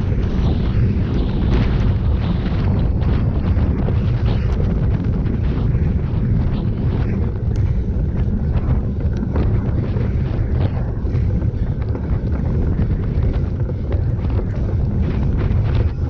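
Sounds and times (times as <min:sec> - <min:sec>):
muffled motorcycle engine: 0:00.0 - 0:16.0
wind buffeting camera: 0:00.0 - 0:16.0.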